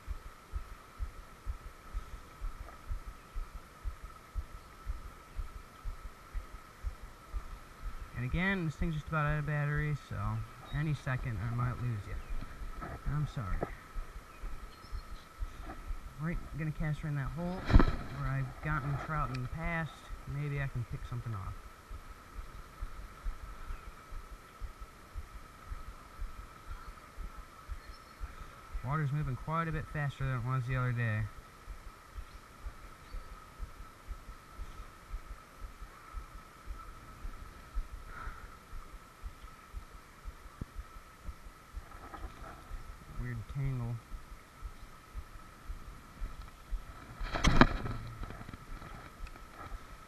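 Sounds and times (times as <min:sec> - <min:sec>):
wind buffeting microphone: 0:00.0 - 0:29.4, 0:31.1 - 0:50.0
faint steady high hum: 0:00.0 - 0:50.0.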